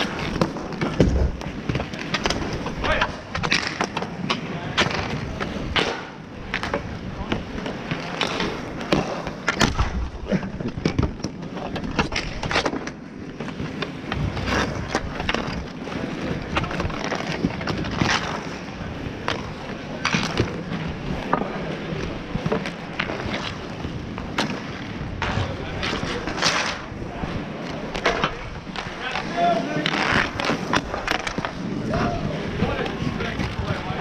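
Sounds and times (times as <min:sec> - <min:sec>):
hockey sticks clacking: 0:00.0 - 0:34.0
skate wheels rolling on asphalt: 0:00.0 - 0:34.0.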